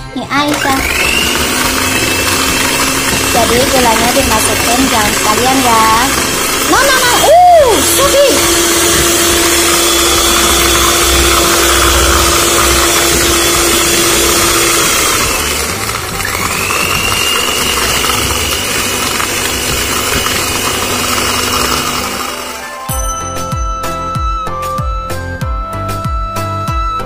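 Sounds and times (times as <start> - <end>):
electric hand mixer running: 0.0 - 23.0.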